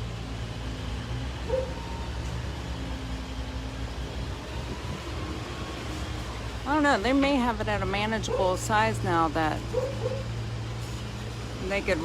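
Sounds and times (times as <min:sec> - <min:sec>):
heavy equipment engine drone: 0:00.0 - 0:12.0.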